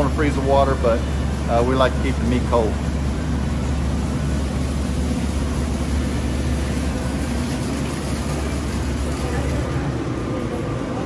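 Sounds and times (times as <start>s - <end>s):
refrigeration unit humming: 0.0s - 11.0s.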